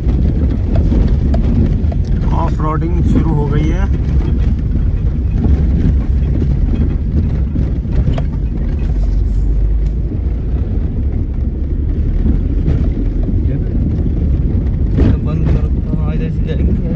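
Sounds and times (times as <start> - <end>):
vehicle body knocking and rattling: 0.0 - 16.9
vehicle engine rumbling: 0.0 - 16.9.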